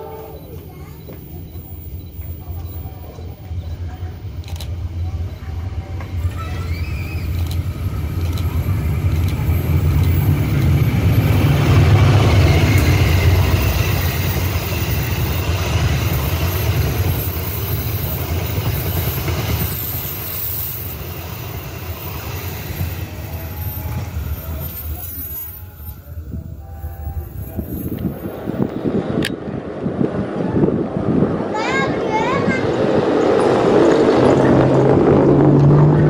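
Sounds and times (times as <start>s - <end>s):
passenger train passing: 0.0s - 36.0s.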